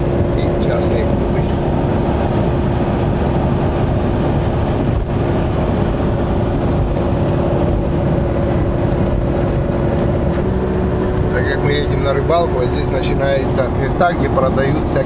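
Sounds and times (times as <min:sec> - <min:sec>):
engine hum: 0:00.0 - 0:15.0
tyre and wind drone: 0:00.0 - 0:15.0.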